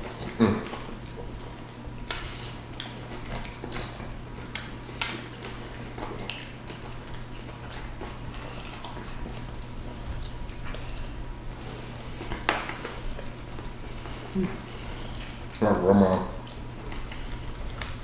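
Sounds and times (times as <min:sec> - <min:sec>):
close chewing smacks: 0:00.0 - 0:18.0
low steady hum: 0:00.0 - 0:18.0.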